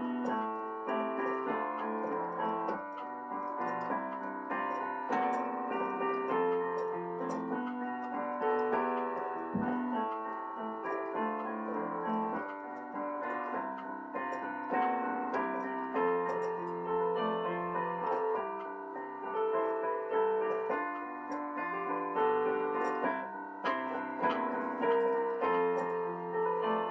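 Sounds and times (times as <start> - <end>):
piano piece: 0.0 - 26.9.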